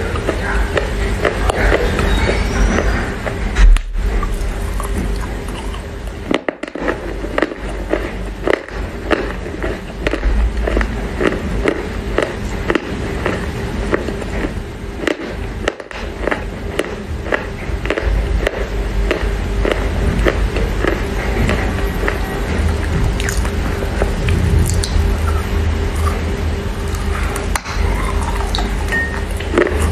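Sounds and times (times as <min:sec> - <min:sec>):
chewing clay with crunches: 0:00.0 - 0:29.9.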